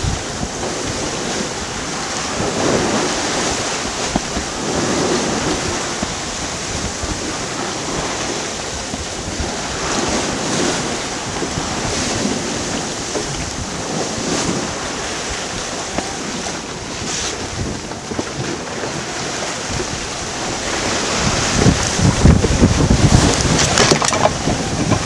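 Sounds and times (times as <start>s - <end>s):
water splashing along hull: 0.0s - 25.0s
wind buffeting microphone: 0.0s - 25.0s.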